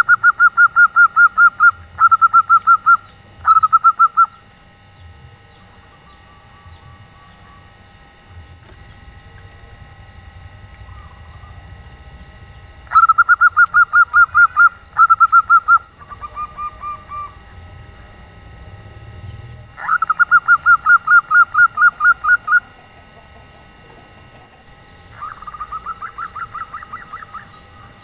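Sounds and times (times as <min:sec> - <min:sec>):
dove calling rapid notes: 0:00.0 - 0:28.0.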